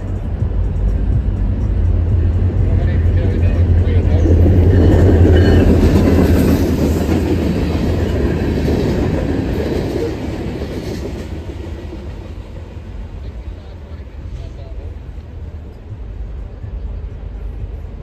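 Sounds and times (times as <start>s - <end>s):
low train rumble: 0.0s - 18.0s.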